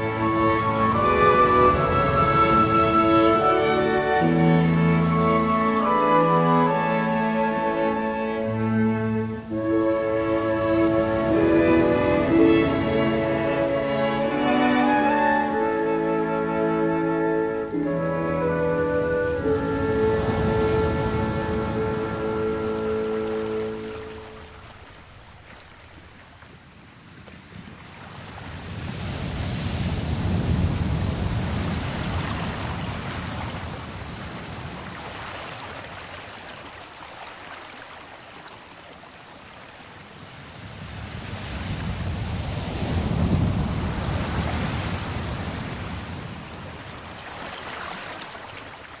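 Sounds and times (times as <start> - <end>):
ocean waves rushing in: 0.0 - 49.0.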